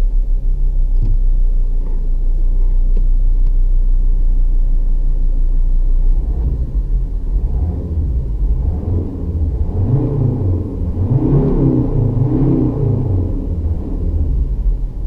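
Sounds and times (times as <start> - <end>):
diesel engine rumbling and revving: 0.0 - 15.0.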